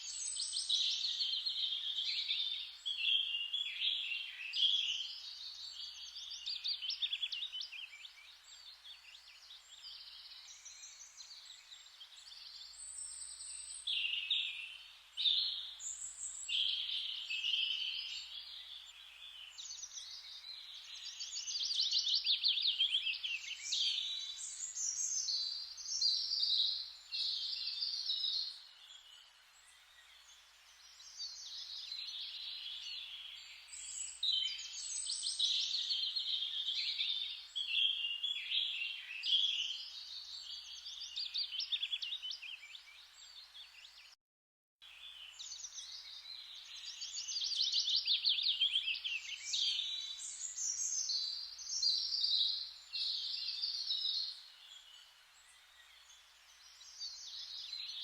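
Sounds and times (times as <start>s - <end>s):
forest background hiss: 0.0s - 44.2s, 44.8s - 58.0s
songbirds chirping and singing: 0.0s - 44.2s, 44.8s - 58.0s.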